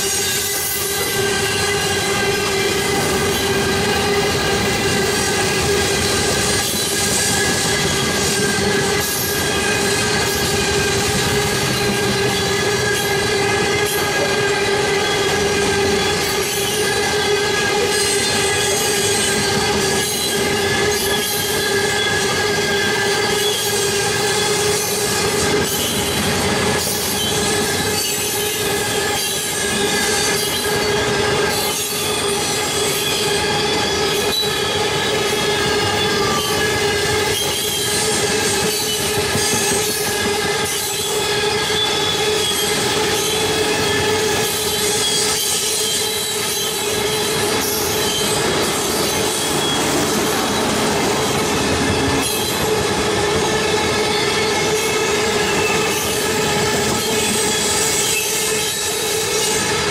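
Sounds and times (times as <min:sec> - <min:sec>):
train rumble: 0:00.0 - 0:59.9
train wheels squealing: 0:00.0 - 0:59.9.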